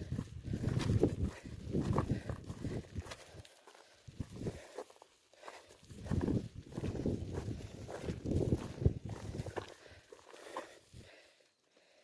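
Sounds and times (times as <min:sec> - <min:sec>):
faint footsteps on ground: 0:00.0 - 0:12.0.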